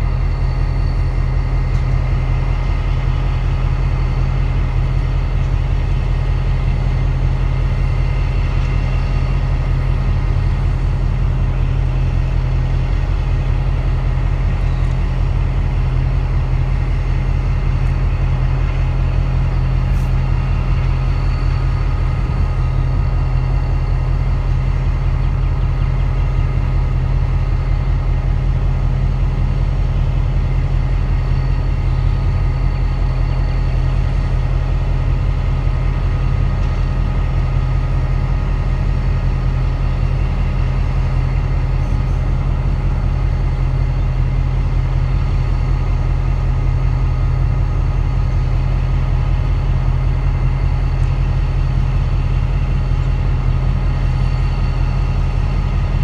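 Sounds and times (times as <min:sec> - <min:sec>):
diesel locomotives idling: 0:00.0 - 0:56.0.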